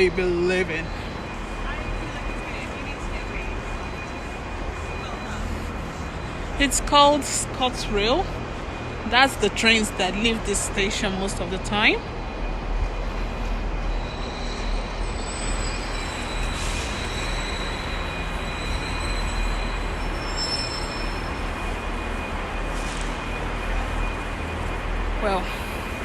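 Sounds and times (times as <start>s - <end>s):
train rumbling with high whine: 0.0s - 26.0s.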